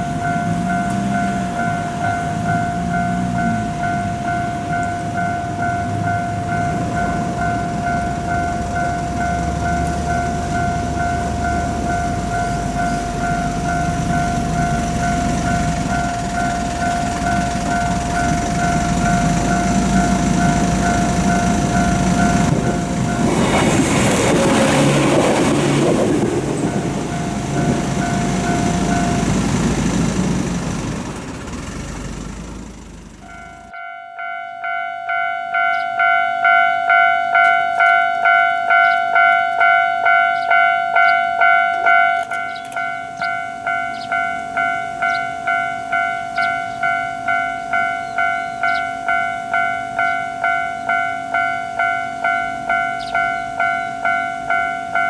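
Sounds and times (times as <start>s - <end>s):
train rumbling past: 0.0s - 33.8s, 34.7s - 55.0s
level crossing bell clanging: 0.0s - 55.0s.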